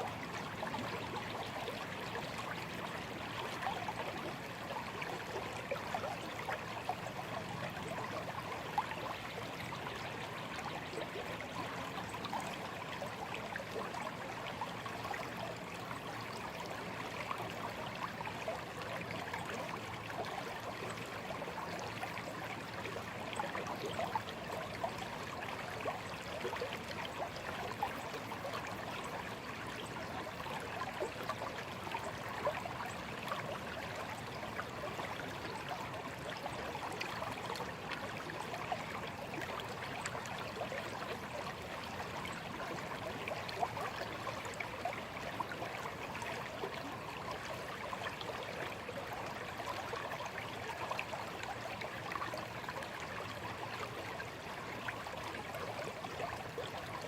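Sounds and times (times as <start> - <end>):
stream trickling over stones: 0.0 - 57.0.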